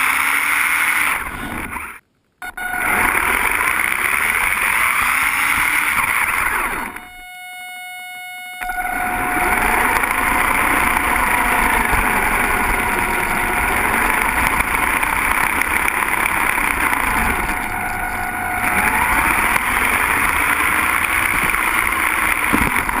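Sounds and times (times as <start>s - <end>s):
toy car motor whine: 0.0s - 23.0s.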